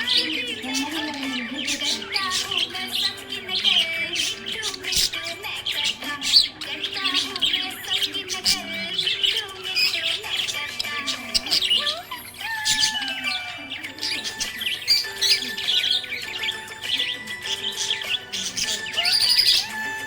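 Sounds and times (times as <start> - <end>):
budgerigars chirping and warbling: 0.0 - 20.0.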